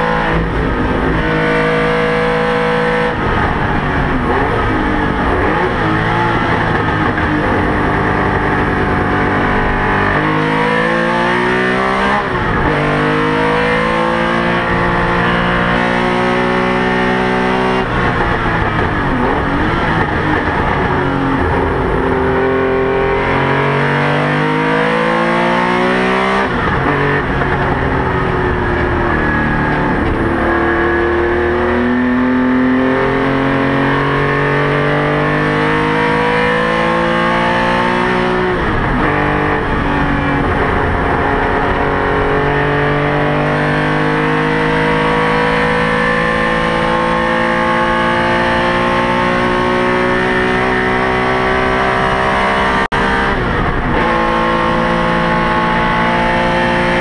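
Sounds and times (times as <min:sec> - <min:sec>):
racing car engine at full speed: 0:00.0 - 0:57.0.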